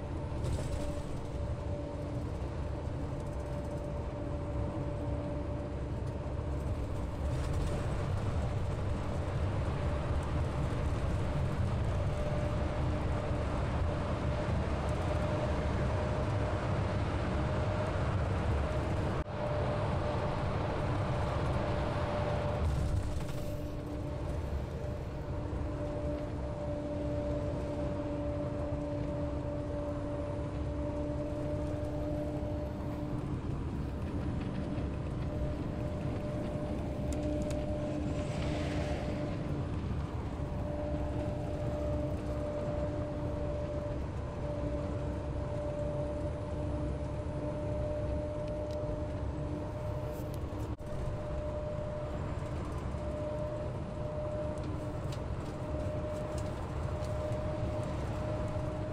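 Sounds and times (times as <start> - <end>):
bus engine and road rumble: 0.0 - 58.9.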